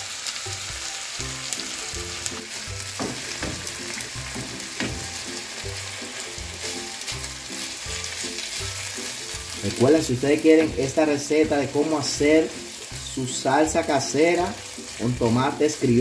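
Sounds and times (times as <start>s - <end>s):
meat sauce sizzling in a frying pan: 0.0s - 16.0s
soft background music: 0.0s - 16.0s.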